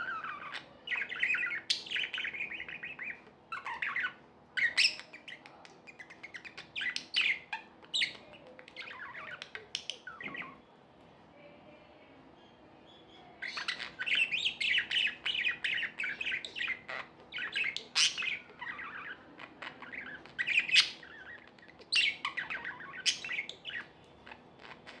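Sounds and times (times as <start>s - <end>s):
budgerigars chattering and warbling: 0.0s - 10.7s, 12.4s - 25.0s
sharp bird calls: 0.0s - 10.7s, 12.4s - 25.0s.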